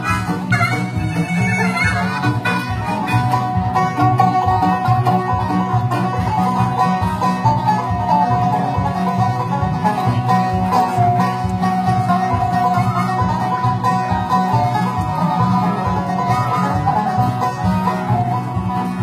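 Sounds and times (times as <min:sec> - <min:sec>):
banjo picking: 0:00.0 - 0:19.0
bluegrass band playing: 0:00.0 - 0:19.0.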